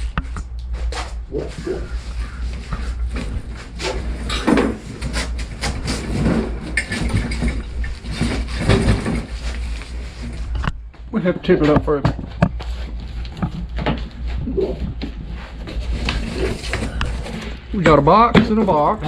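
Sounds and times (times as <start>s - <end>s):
low steady hum: 0.0s - 19.0s
knocks and scrapes: 0.2s - 10.8s, 11.6s - 19.0s
cardboard and packing rustling: 0.7s - 10.8s, 11.4s - 19.0s.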